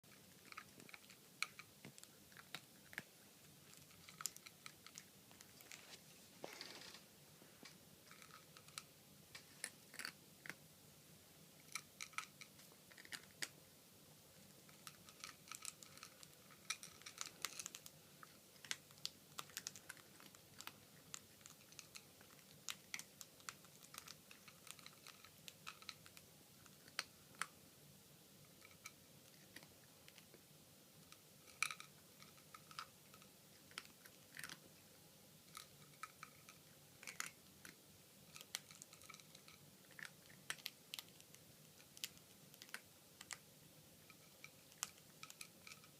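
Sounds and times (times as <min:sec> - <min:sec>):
kibble crunching and clicking: 0:00.0 - 0:05.9, 0:07.6 - 0:10.6, 0:11.6 - 0:13.6, 0:14.4 - 0:27.6, 0:28.5 - 0:30.4, 0:31.0 - 0:34.8, 0:35.4 - 0:45.9.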